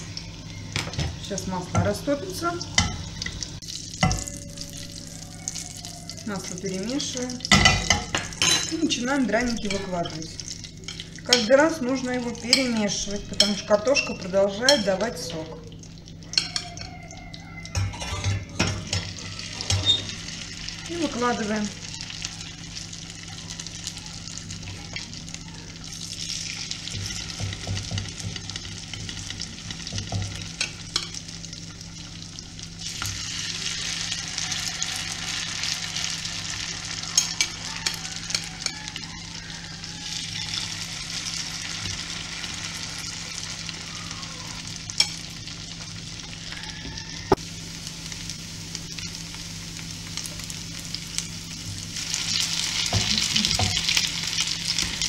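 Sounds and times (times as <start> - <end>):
pancakes sizzling in oil: 0.0 - 55.0.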